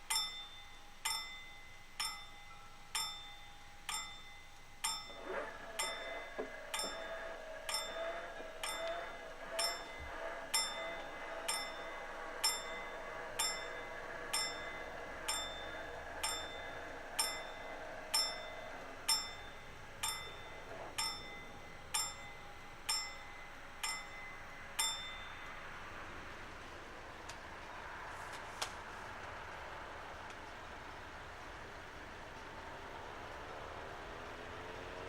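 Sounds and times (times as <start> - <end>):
level crossing warning bell: 0.0 - 28.1, 29.1 - 35.0.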